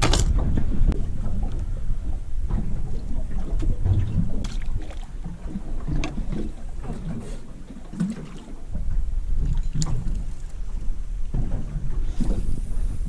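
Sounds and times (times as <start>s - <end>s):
water moving against hull: 0.0s - 13.0s
wind rumbling on microphone: 0.0s - 13.0s.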